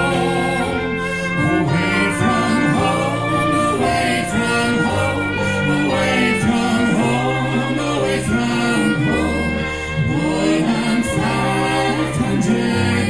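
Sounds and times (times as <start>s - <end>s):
electric bass: 0.0s - 13.0s
folk band singing in harmony: 0.0s - 13.0s.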